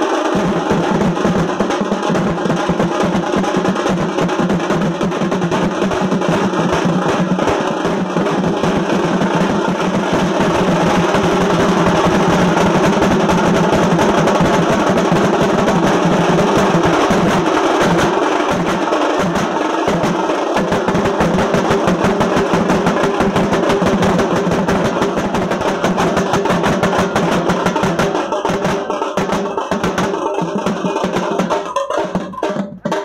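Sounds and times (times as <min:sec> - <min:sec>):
drum ensemble playing fast rhythm: 0:00.0 - 0:33.0
snare drums rattling rapid rolls: 0:00.0 - 0:33.0.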